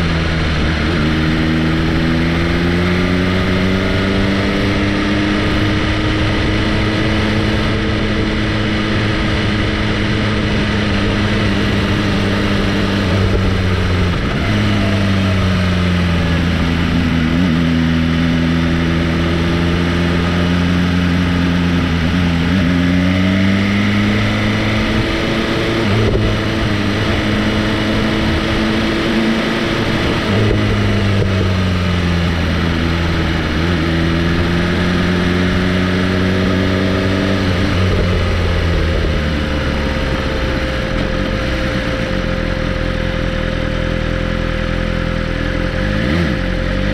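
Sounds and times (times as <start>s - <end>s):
motorcycle engine running: 0.0s - 46.9s
road and wind noise: 0.0s - 46.9s.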